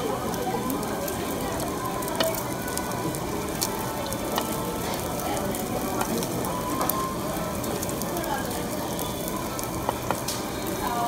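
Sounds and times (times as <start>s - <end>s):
meat sizzling on a grill: 0.0s - 11.0s
fat popping and crackling: 0.8s - 10.6s.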